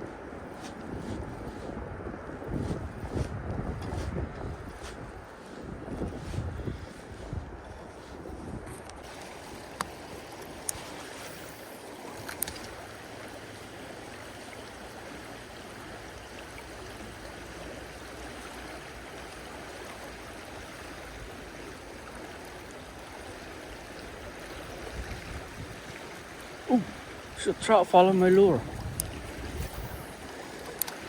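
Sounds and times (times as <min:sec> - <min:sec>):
creek water running: 0:00.0 - 0:31.0.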